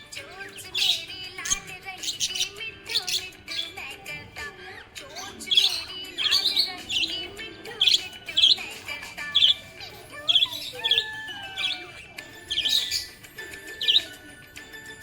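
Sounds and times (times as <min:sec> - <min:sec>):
budgerigars chirping: 0:00.4 - 0:03.9, 0:05.1 - 0:14.3.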